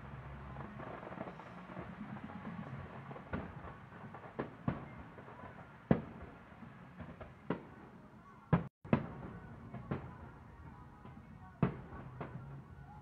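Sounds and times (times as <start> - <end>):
distant fireworks booming: 0.2 - 12.8.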